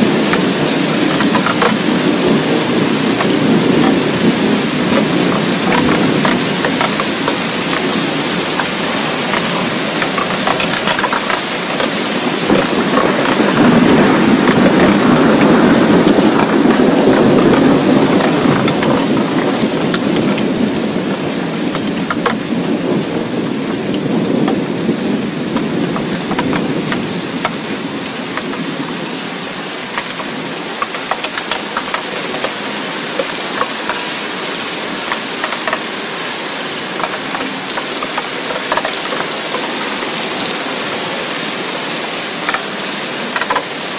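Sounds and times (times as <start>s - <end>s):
rain drops on hard surface: 0.0s - 43.9s.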